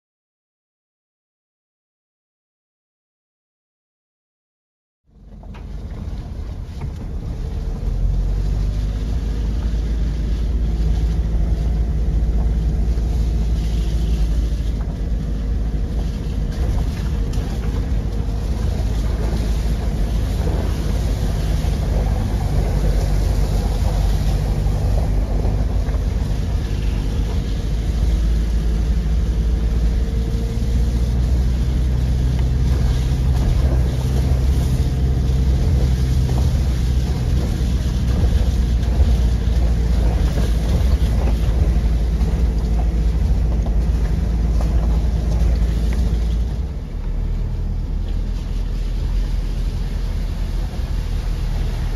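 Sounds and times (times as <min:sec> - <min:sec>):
car engine and road rumble: 0:05.1 - 0:51.9
tyre noise on wet road: 0:05.1 - 0:51.9.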